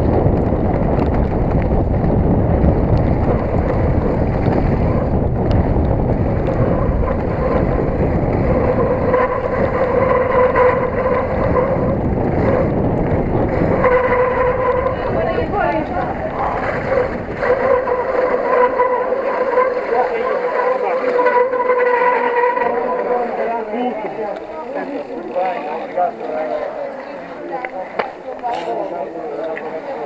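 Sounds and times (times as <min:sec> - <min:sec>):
wind rushing over microphone: 0:00.0 - 0:25.3
bike tyres rattling over rough ground: 0:00.0 - 0:26.6.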